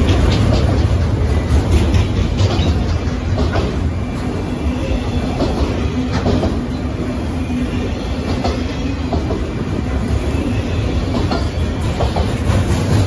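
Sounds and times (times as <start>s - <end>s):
train clacks: 0.0s - 13.0s
train wheels rumbling on rail: 0.0s - 13.0s.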